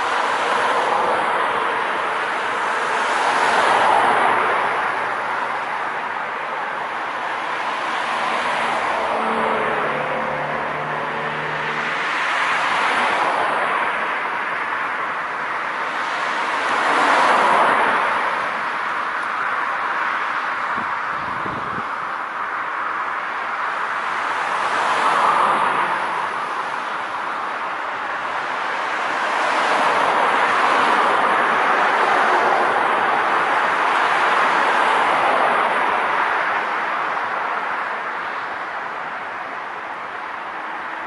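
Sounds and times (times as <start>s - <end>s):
car tyre noise on road: 0.0s - 41.0s.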